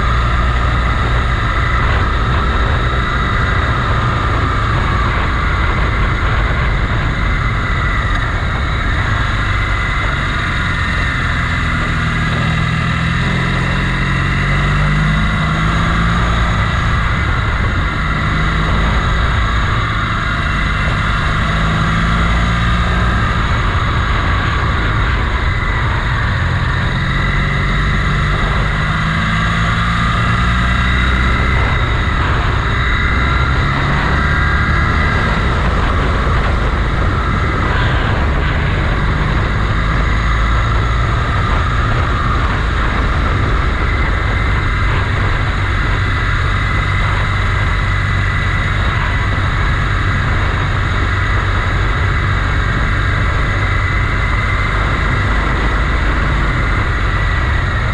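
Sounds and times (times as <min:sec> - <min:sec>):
motorcycle engine running: 0:00.0 - 0:57.9
wind noise: 0:00.0 - 0:57.9.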